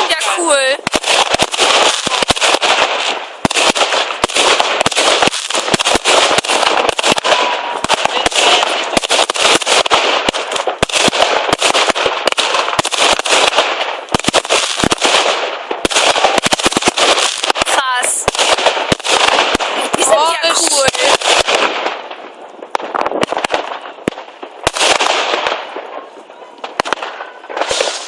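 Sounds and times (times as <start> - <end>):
fireworks crackling and banging: 0.0 - 28.0.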